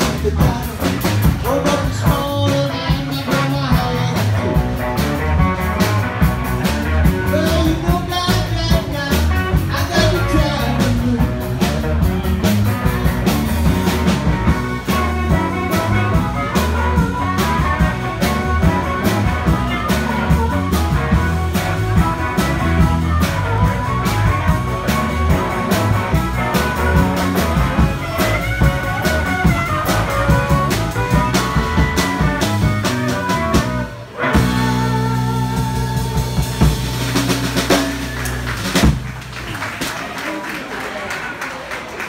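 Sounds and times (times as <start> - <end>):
drum kit beat: 0.0 - 39.5
electric guitar: 0.0 - 39.6
bass line: 0.0 - 39.7.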